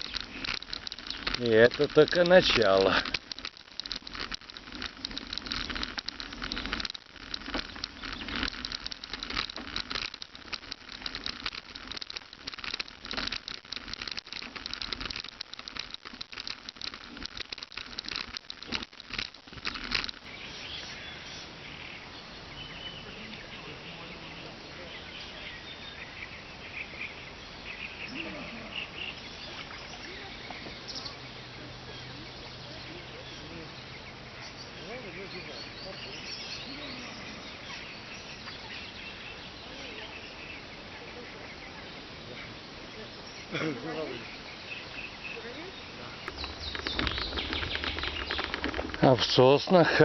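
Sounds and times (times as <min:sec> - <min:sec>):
bicycle rattling over bumpy ground: 0:00.0 - 0:22.0, 0:23.6 - 0:40.7, 0:41.9 - 0:50.0
insects chirring: 0:00.0 - 0:50.0
steady hiss: 0:00.0 - 0:50.0.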